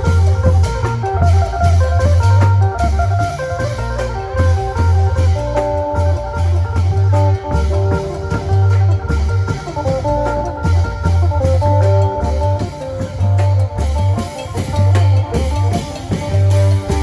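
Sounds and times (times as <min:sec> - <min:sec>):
plucked lute melody: 0:00.0 - 0:17.0
pulsing bass line: 0:00.0 - 0:17.0
steady drum beat: 0:00.0 - 0:17.0.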